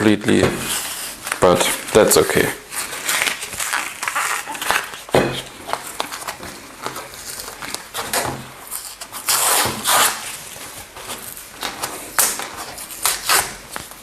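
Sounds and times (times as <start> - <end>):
paper and cardboard tearing: 0.4 - 14.0.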